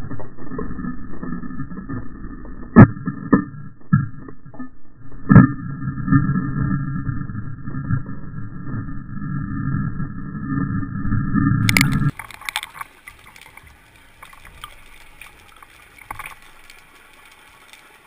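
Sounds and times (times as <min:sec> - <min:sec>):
muffled underwater rumble: 0:00.0 - 0:18.0.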